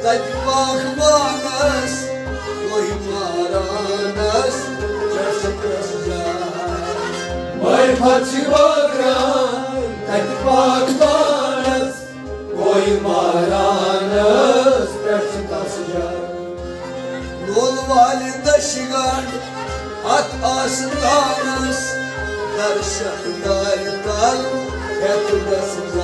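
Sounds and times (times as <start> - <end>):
man singing: 0.0 - 16.4, 17.4 - 26.0
harmonium and rabab: 0.0 - 26.0.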